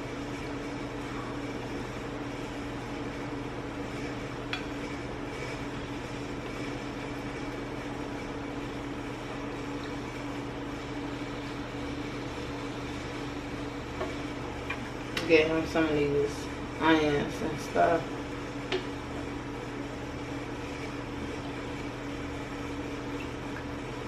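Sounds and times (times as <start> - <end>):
appliance hum: 0.0 - 24.0.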